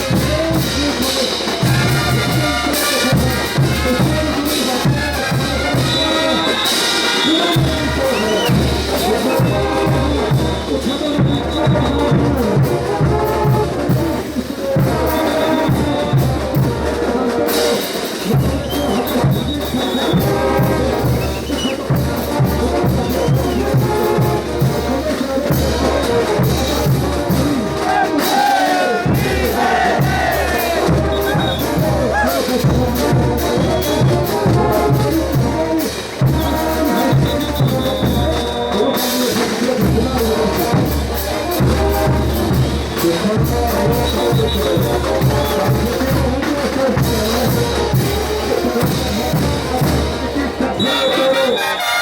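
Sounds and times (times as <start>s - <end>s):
bass and drum beat: 0.0s - 50.9s
brass band playing: 0.0s - 52.0s.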